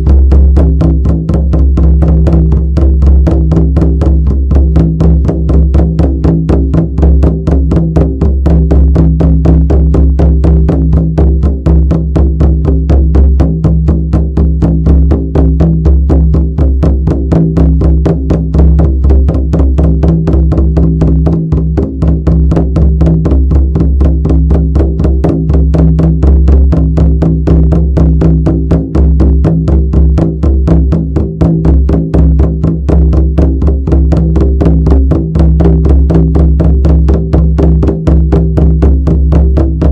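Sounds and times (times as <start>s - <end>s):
drum beaten in fast rhythm: 0.0s - 39.9s.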